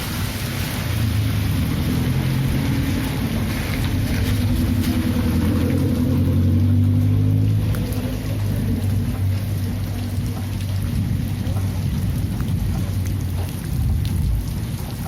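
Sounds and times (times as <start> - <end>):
steady rain: 0.0 - 15.0
vehicle engine running: 0.7 - 14.3.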